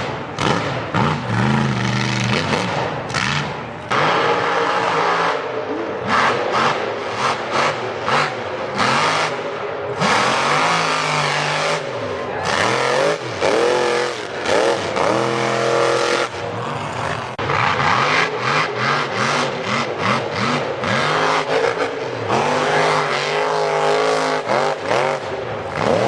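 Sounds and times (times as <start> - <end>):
engine revving hard: 0.0 - 26.0.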